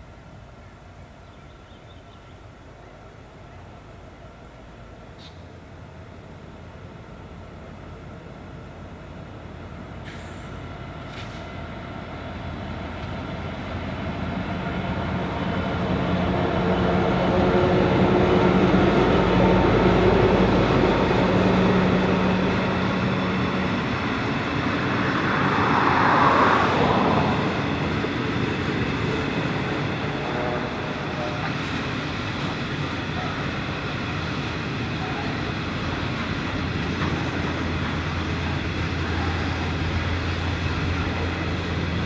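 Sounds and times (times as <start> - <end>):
diesel locomotives at full throttle: 2.7 - 42.0.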